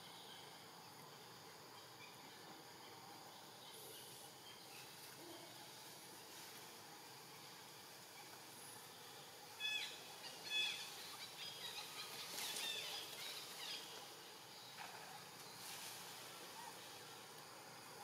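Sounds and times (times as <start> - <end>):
insects: 0.0 - 18.0.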